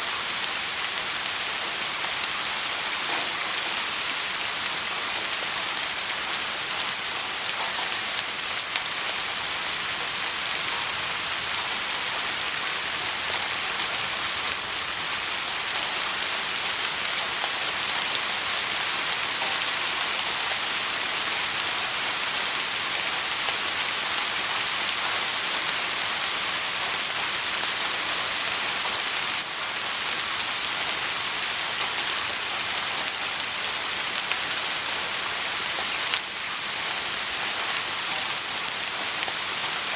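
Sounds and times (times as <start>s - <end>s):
steady soft rain hiss: 0.0s - 39.9s.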